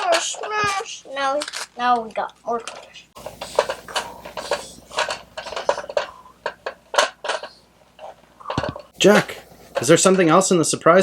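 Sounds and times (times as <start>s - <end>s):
plastic toys clattering: 0.0s - 8.9s.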